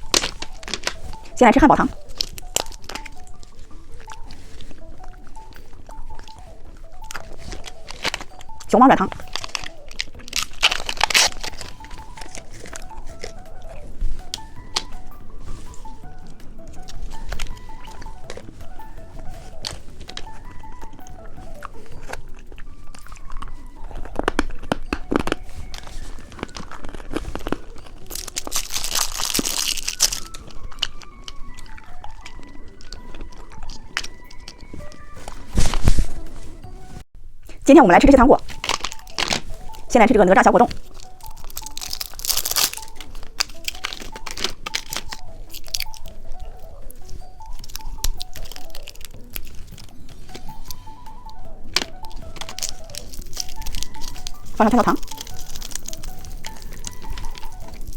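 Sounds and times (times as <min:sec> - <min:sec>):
plastic packaging crinkling and tearing: 0:00.0 - 0:37.0, 0:38.4 - 0:57.9
candy crunching: 0:00.0 - 0:57.9
faint background music: 0:00.0 - 0:57.9.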